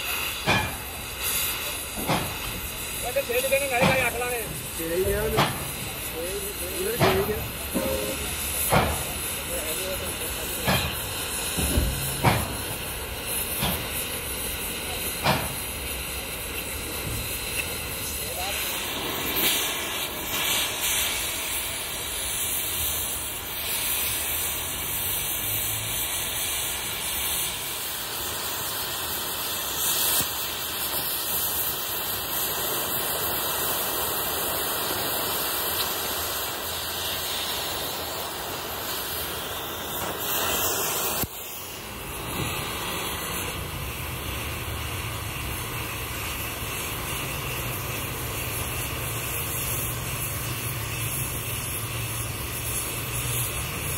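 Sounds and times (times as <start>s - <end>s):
cutting torch hissing: 0.0s - 53.9s.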